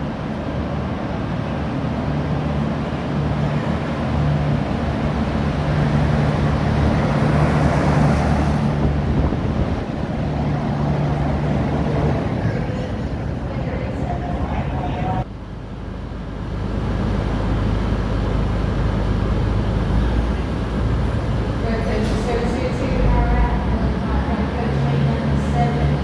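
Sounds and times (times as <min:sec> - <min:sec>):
diesel train engine drone: 0:00.0 - 0:26.0.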